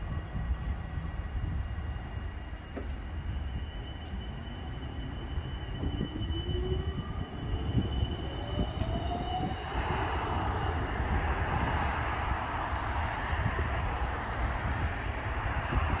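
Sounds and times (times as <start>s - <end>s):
tram motor whine: 0.0s - 16.0s.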